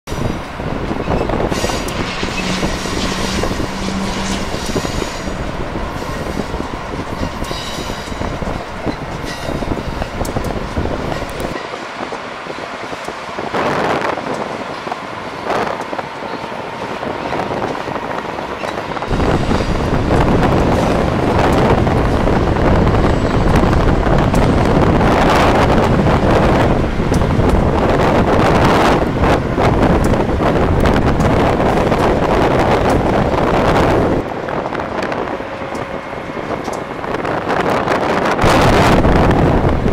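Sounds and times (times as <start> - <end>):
train rolling on rails: 0.1 - 39.9
wind buffeting microphone: 0.1 - 39.9.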